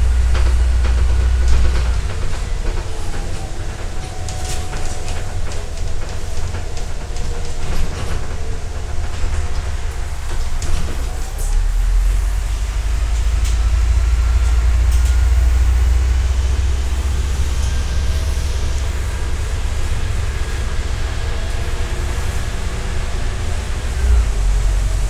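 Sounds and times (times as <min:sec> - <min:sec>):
bus drivetrain and road rumble: 0:00.0 - 0:25.0.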